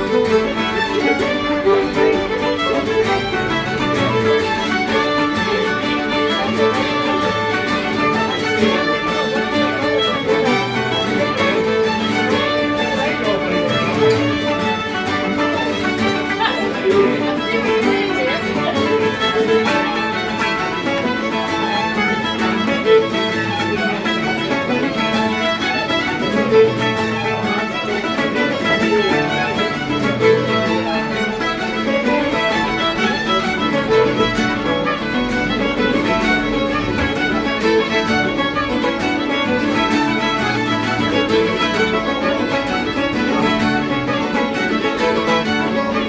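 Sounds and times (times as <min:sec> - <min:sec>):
fiddle playing a jig: 0:00.0 - 0:46.0
resonator tenor guitar: 0:00.0 - 0:46.0
strummed guitar: 0:00.0 - 0:46.0.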